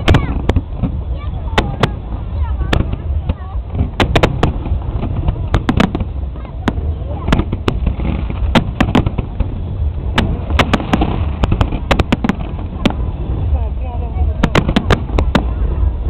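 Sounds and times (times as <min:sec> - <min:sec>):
faint crowd voices: 0:00.0 - 0:16.0
fireworks bursting with sharp bangs: 0:00.0 - 0:16.0
steady low rumble: 0:00.0 - 0:16.0.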